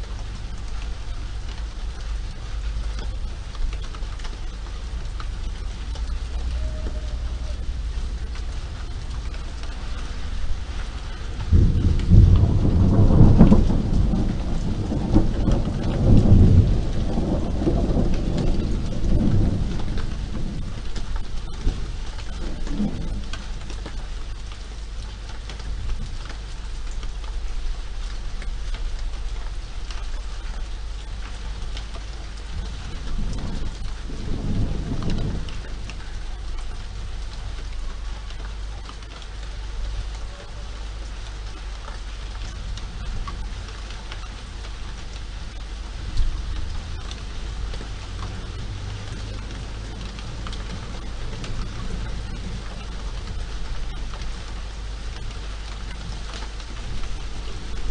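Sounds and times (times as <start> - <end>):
low rumble of city traffic: 0.0 - 57.9
steady rain falling: 0.0 - 57.9.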